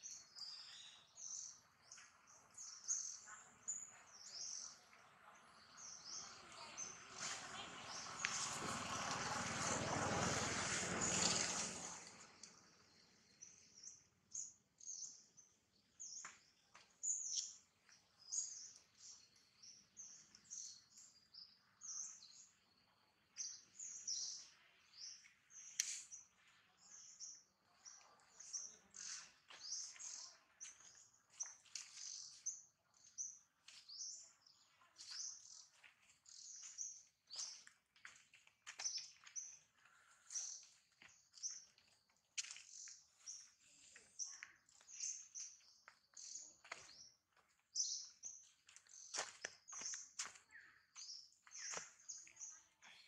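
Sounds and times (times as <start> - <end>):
small birds chirping: 0.0 - 9.8, 10.7 - 53.0.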